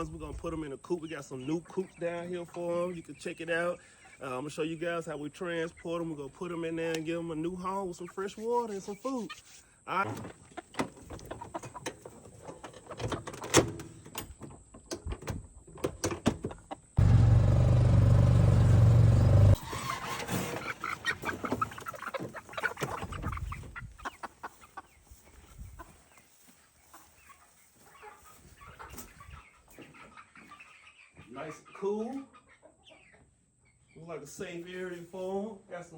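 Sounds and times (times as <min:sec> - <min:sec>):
chickens clucking: 0:00.0 - 0:13.4, 0:16.4 - 0:35.0.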